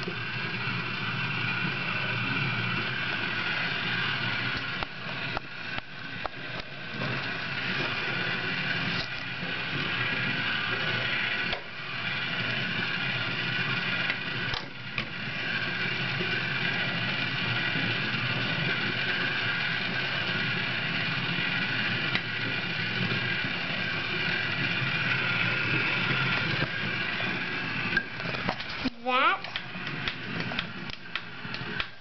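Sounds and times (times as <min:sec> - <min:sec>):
motor whirring: 0:00.0 - 0:32.0.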